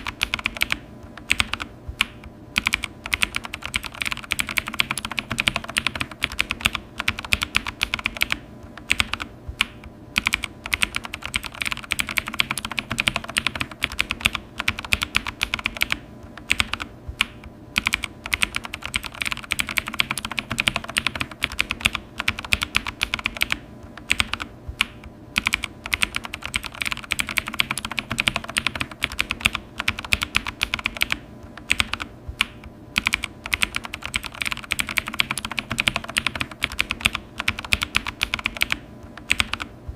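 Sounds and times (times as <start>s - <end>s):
fast typing on keyboard: 0.0s - 39.7s.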